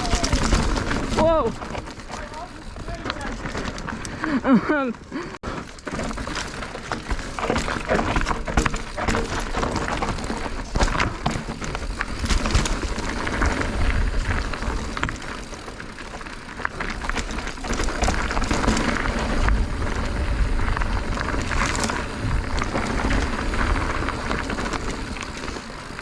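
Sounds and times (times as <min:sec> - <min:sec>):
bike tyres rolling over rock: 0:00.0 - 0:26.0.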